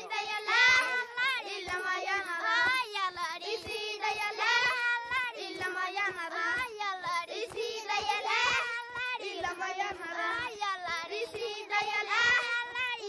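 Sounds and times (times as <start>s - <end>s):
children singing together: 0.0s - 13.0s.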